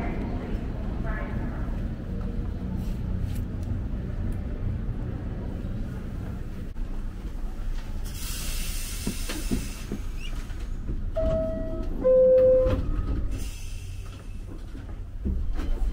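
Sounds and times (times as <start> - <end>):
subway train rumble: 0.0 - 15.9.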